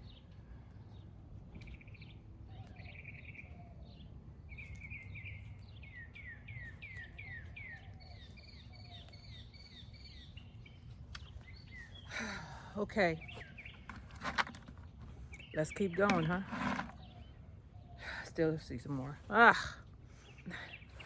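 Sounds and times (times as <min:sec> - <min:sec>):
birds chirping and trilling: 0:00.0 - 0:21.0.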